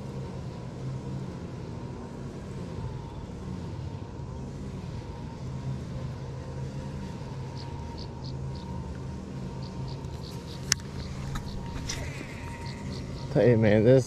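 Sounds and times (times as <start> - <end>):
engine low drone: 0.0 - 14.0.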